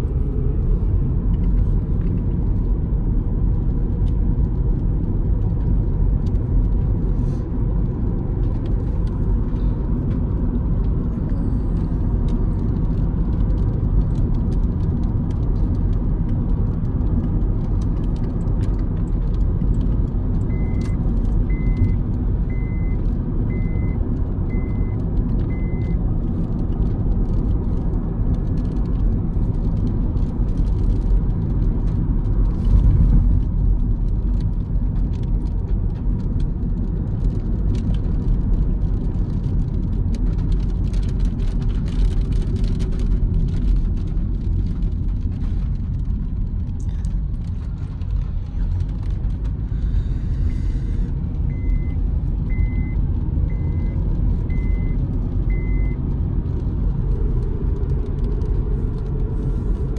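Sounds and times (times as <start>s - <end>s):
car rumbling on wet road: 0.0s - 59.9s.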